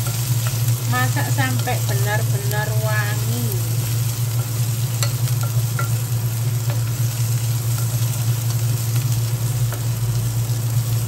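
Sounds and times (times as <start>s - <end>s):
aromatics sizzling in hot oil: 0.0s - 11.0s
steady low hum: 0.0s - 11.0s.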